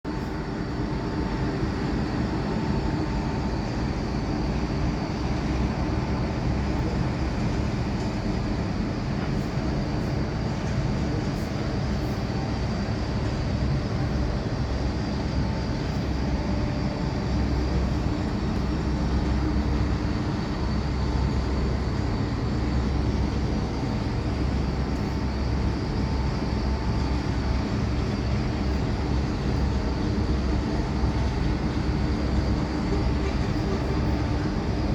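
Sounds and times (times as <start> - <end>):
heavy machinery rumble: 0.1 - 34.9.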